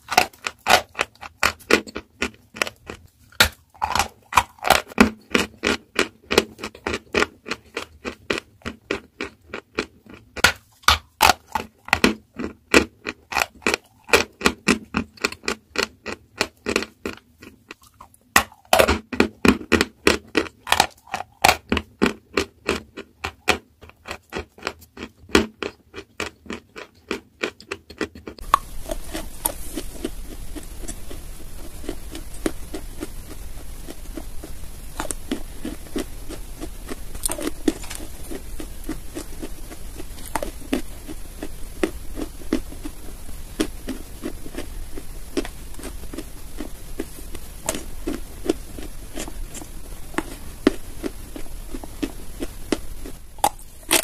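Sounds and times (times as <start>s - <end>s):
chalk crunching while chewed: 0.0s - 54.0s
quiet steady hiss: 0.0s - 54.0s.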